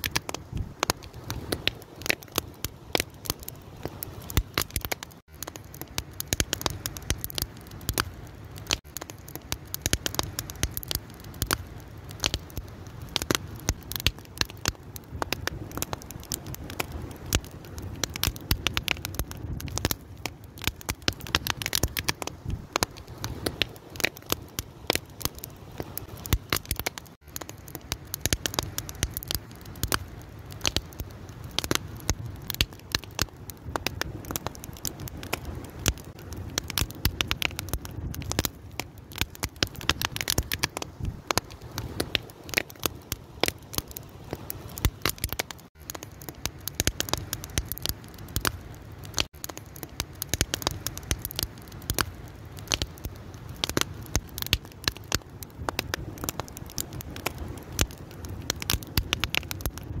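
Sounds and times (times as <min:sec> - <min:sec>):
open fire crackling: 0:00.0 - 1:00.0.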